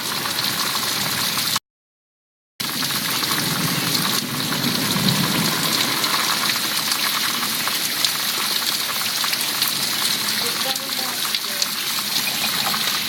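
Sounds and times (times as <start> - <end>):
heavy rain pattering: 0.0 - 1.6, 2.6 - 13.0.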